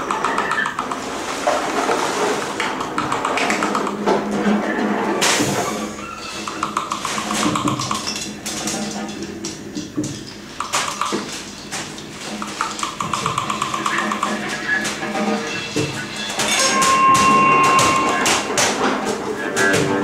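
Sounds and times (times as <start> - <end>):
scattered taps knocks and clicks: 0.0 - 1.1, 2.6 - 4.4, 6.3 - 20.0.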